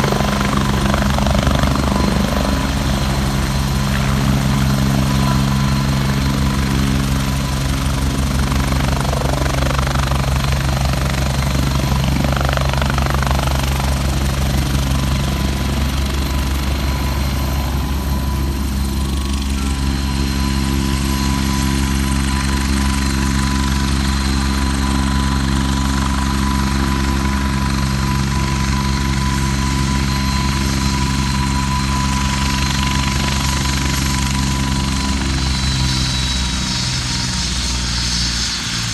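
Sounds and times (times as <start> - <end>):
helicopter rotor beat: 0.0 - 38.9
helicopter turbine whine: 0.0 - 38.9.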